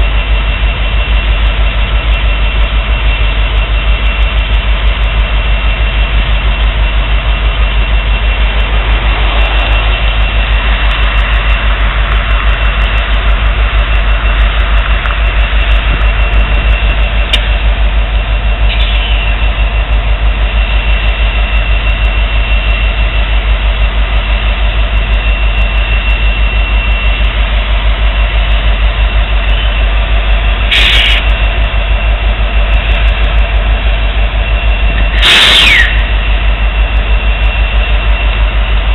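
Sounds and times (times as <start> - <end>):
diesel locomotive engine throb: 0.0 - 38.9
faint high whine: 0.0 - 38.9.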